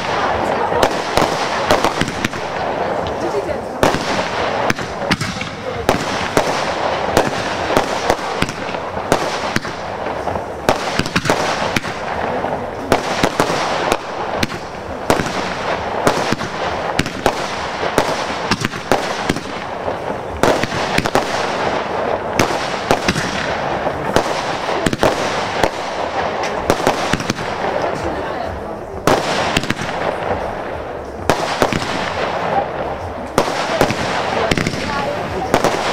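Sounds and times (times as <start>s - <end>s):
constant din: 0.0s - 35.9s
fireworks bangs and pops: 0.0s - 35.9s.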